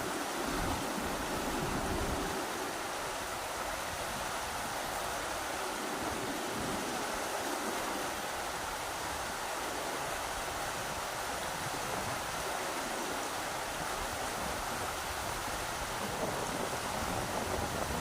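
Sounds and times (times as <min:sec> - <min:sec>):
rushing river water: 0:00.0 - 0:18.0.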